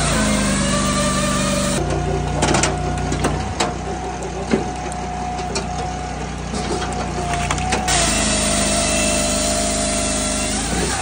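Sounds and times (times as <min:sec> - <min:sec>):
engine running with whine: 0:00.0 - 0:11.0.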